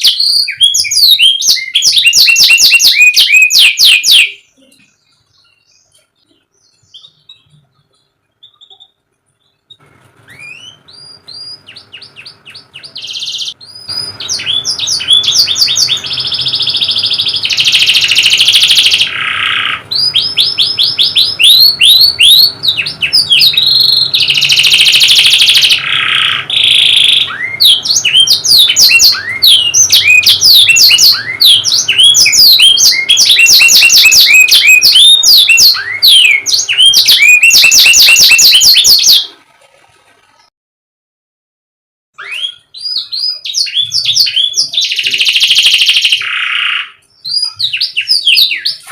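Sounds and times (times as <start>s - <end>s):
canary singing: 0.0s - 39.4s, 42.2s - 48.9s.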